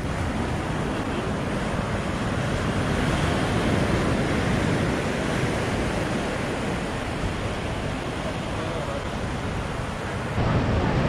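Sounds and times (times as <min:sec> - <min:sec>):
ocean surf washing onto beach: 0:00.0 - 0:11.0.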